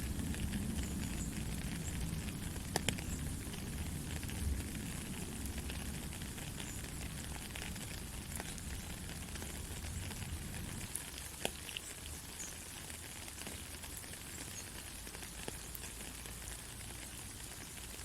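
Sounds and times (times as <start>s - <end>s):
raindrops ticking: 0.0s - 18.0s
soft rain hiss: 0.0s - 18.0s.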